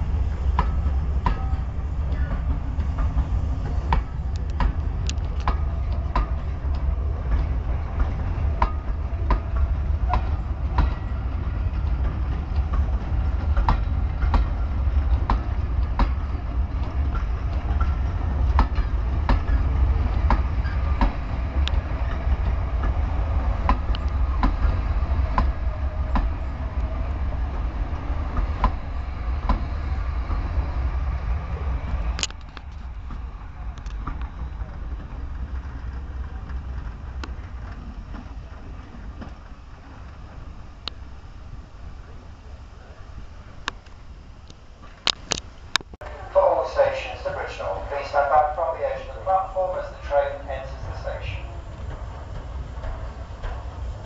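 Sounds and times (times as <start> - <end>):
train wheels clicking over rail joints: 0.0 - 46.0, 50.8 - 54.0
low rolling rumble: 0.0 - 54.0.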